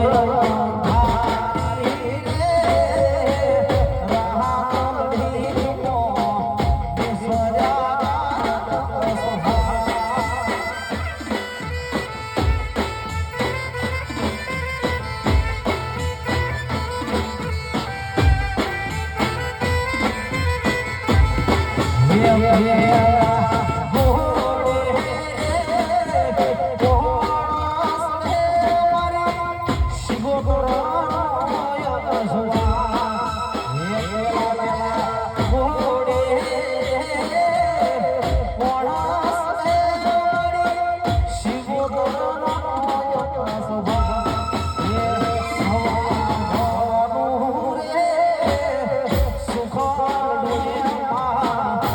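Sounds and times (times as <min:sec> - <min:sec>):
drum and bass beat: 0:00.0 - 0:51.9.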